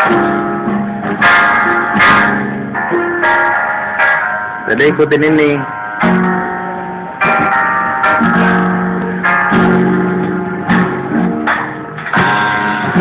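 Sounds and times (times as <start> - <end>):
guitar strumming slow chords: 0.0 - 13.0.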